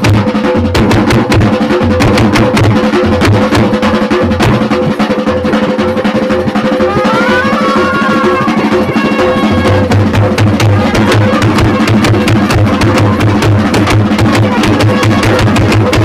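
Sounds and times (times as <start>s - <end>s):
drum band playing fast rhythm: 0.0s - 16.0s.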